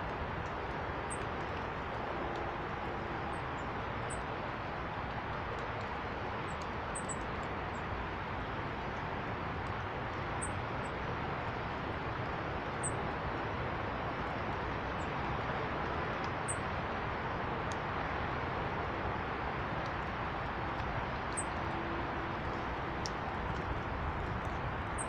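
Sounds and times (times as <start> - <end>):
steady background noise: 0.0 - 25.0.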